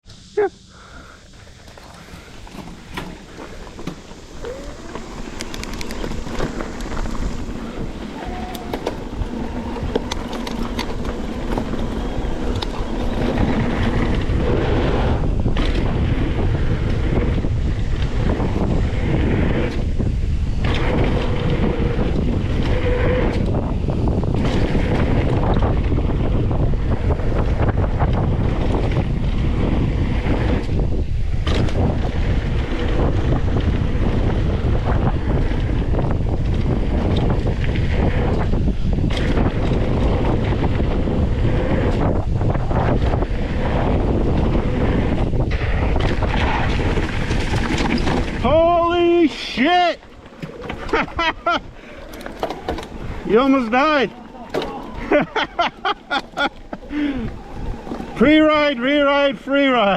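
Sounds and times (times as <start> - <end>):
heavy wind buffeting microphone: 0.2 - 59.9.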